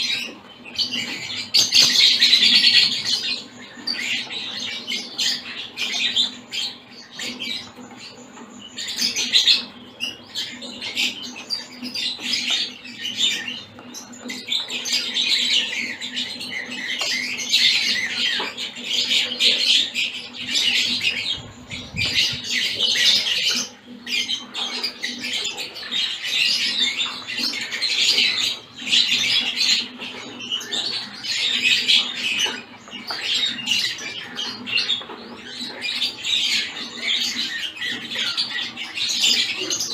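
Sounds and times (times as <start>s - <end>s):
finches chattering and calling: 0.0s - 39.9s.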